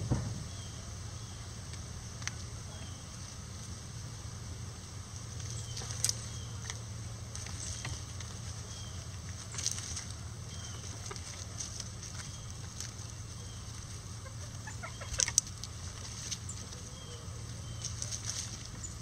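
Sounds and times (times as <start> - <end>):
chickens pecking: 0.0 - 19.0
rustling in dry leaves: 0.0 - 19.0
steady background hiss: 0.0 - 19.0.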